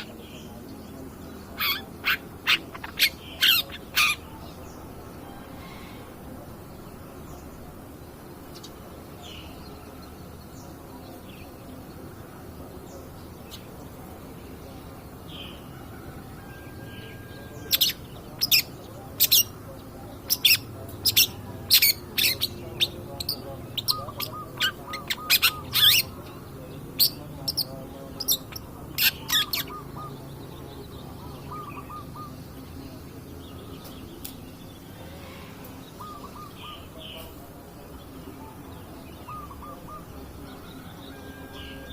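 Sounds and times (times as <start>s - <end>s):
shrike chirps and chattering: 0.0s - 15.7s, 16.7s - 41.9s.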